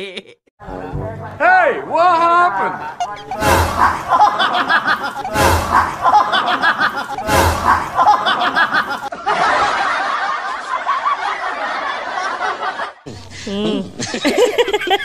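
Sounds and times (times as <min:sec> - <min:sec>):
canned laughter: 0:00.0 - 0:00.4, 0:02.8 - 0:15.0.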